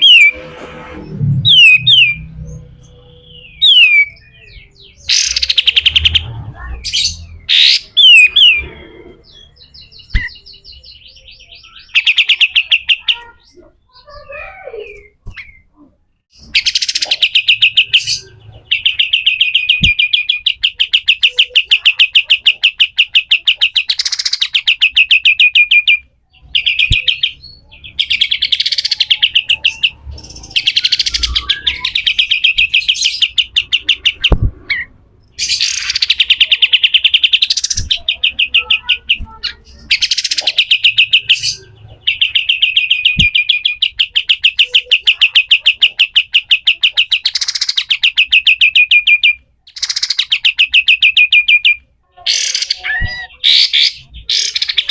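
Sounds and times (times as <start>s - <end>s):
bird chattering song: 1.1s - 54.9s.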